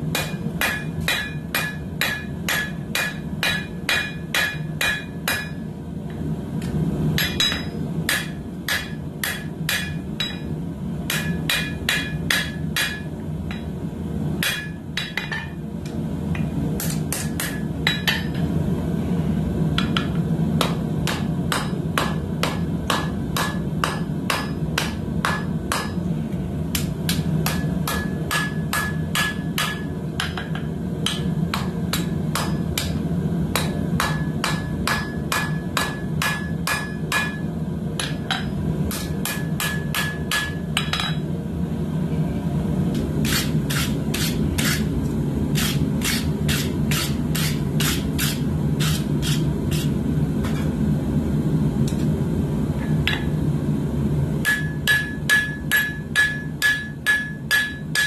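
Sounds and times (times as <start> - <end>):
hammer striking steel on anvil: 0.1 - 5.7, 6.6 - 13.7, 14.4 - 15.6, 16.3 - 18.5, 19.8 - 26.0, 26.7 - 41.2, 43.2 - 44.9, 45.6 - 50.7, 54.4 - 58.0.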